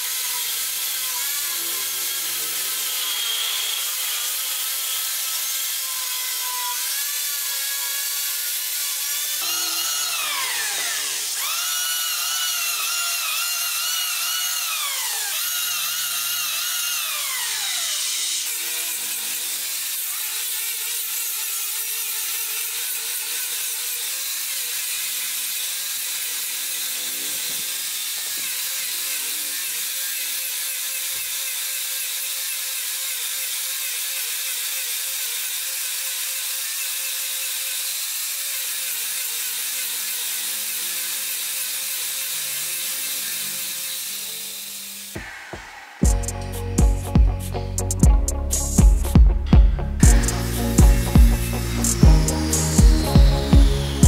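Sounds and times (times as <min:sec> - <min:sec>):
electric hand planer whining: 0:00.0 - 0:45.2, 0:49.8 - 0:54.0
angle grinder sanding wood: 0:00.0 - 0:49.2, 0:49.8 - 0:54.0.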